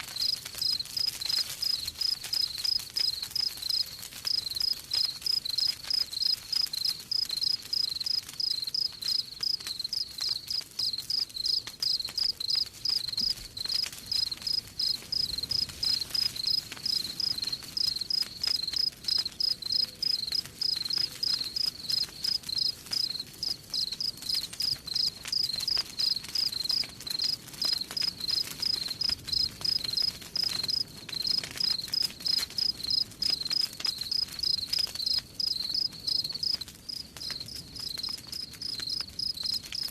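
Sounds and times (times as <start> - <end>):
faint campfire crackle: 0.0 - 39.9
cricket chirping: 0.2 - 39.9.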